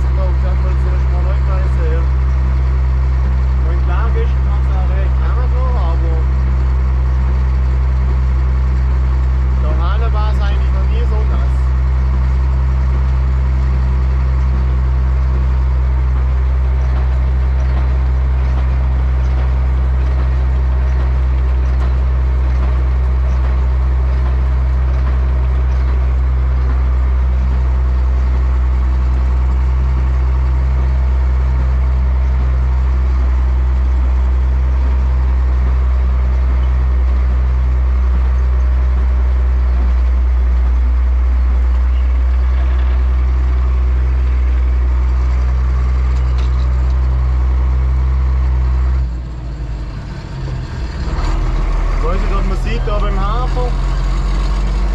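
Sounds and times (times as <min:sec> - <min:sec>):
tractor cab rattling: 0:00.0 - 0:54.9
tractor diesel engine droning: 0:00.0 - 0:54.9.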